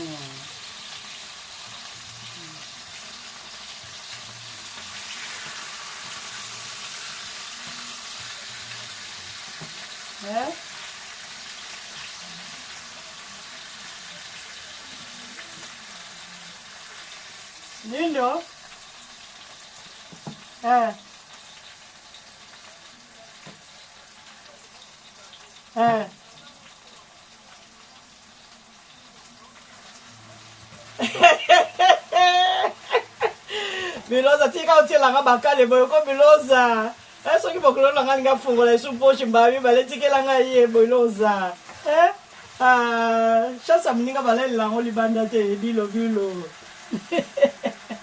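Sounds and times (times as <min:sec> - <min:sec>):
onions sizzling in a pan: 0:00.0 - 0:48.0.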